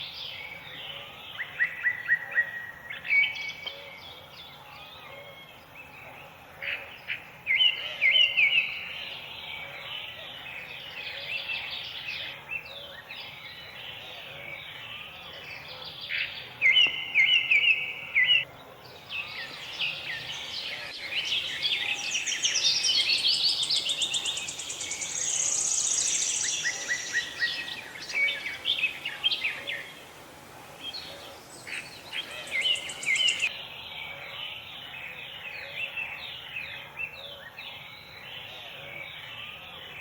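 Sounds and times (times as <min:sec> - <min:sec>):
birds chirping and calling: 0:05.9 - 0:40.0.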